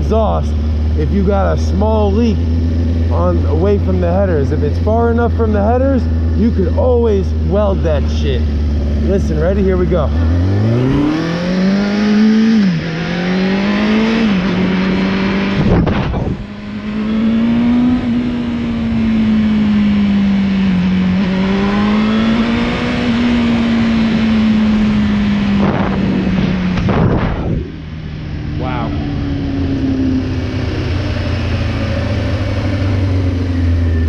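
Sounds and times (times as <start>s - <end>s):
motorcycle engine and exhaust: 0.0s - 34.0s.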